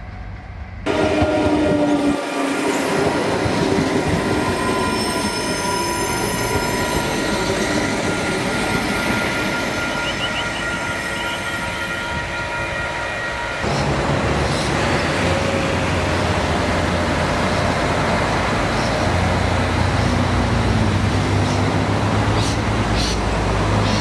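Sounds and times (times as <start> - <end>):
railcar pulling away: 0.0 - 24.0.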